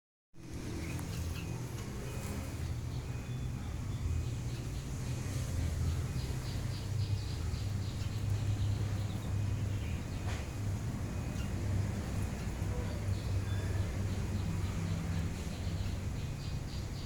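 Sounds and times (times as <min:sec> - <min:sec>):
lovebirds chirping: 0:00.4 - 0:17.0.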